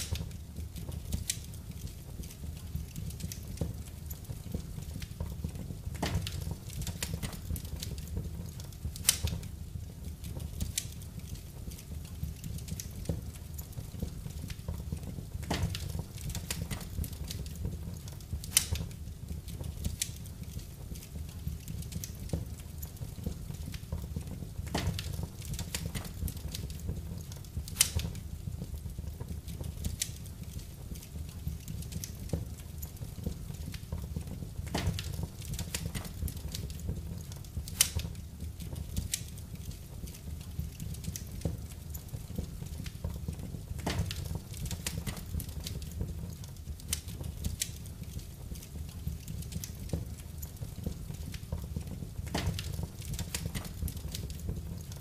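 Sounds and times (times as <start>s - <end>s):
fire popping: 0.0s - 55.0s
fireplace fire crackling: 0.0s - 55.0s.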